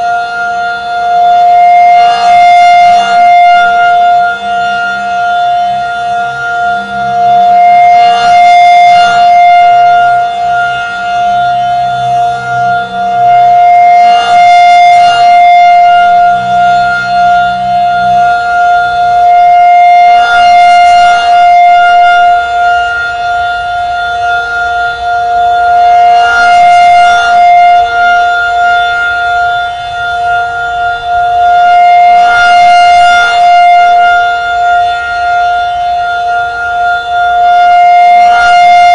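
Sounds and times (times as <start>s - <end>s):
high-pitched warning siren wail: 0.0s - 38.9s.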